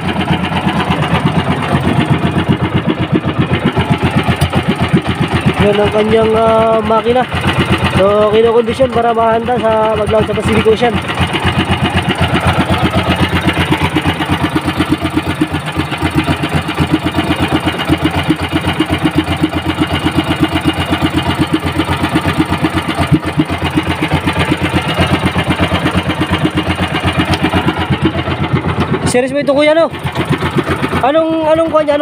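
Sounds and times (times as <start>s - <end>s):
small boat engine running: 0.0s - 32.0s.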